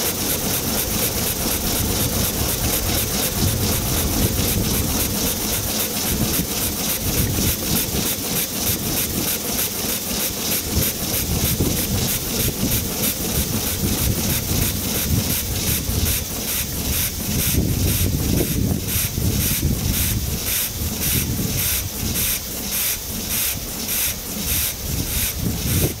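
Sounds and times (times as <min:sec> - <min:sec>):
rhythmic steam hissing: 0:00.0 - 0:26.0
steam engine running: 0:00.0 - 0:26.0.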